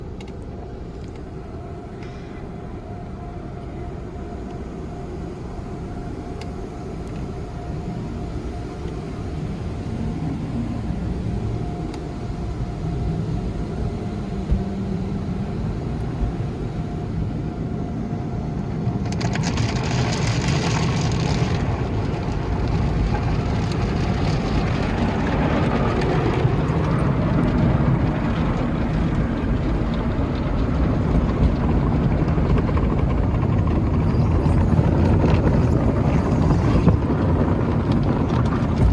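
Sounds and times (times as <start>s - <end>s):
car wash machinery rumbling: 0.0s - 38.9s.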